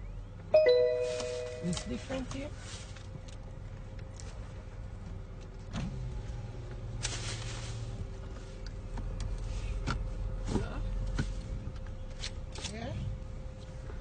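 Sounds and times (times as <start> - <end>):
car engine humming: 0.0 - 12.5.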